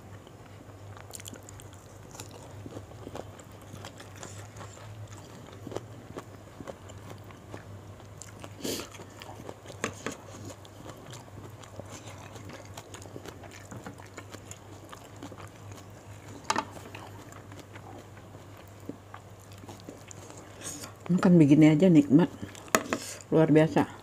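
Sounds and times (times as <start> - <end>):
close chewing and biting: 0.0 - 21.2, 22.3 - 23.3
low steady hum: 0.0 - 24.0.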